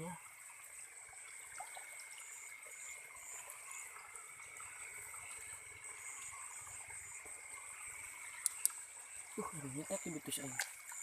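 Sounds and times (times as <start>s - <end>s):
faint water trickling: 0.0s - 11.0s
night insects buzzing: 0.0s - 11.0s.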